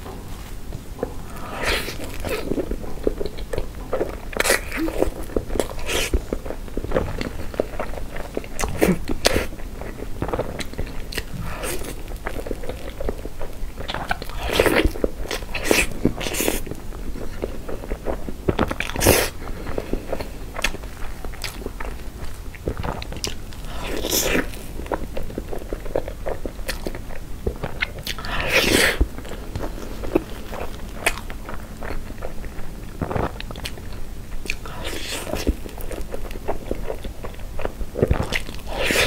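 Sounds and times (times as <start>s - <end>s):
chewing soft cake: 0.1s - 39.0s.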